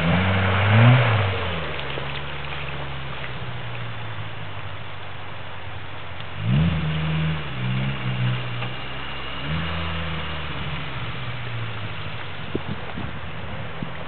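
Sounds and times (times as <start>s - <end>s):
car engine running at low revs: 0.0s - 14.0s.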